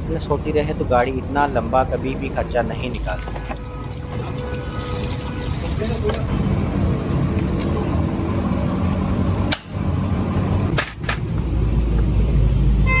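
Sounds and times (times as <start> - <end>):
workshop din: 0.0 - 12.4.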